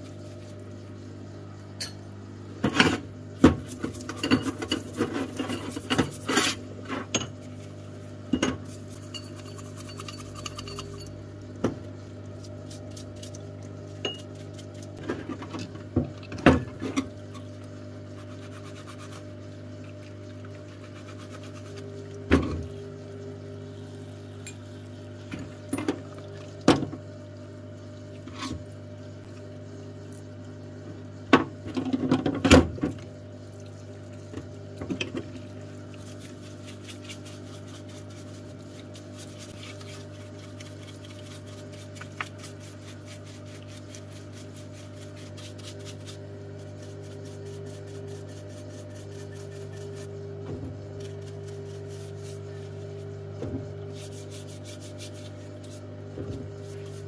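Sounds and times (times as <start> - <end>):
pump humming: 0.0 - 57.0.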